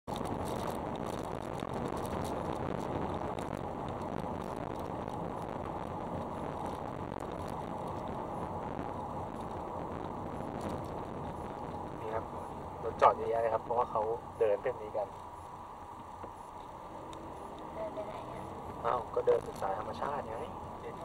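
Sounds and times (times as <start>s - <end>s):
car engine running: 0.0s - 21.0s
tyres rolling on rough road: 0.0s - 21.0s.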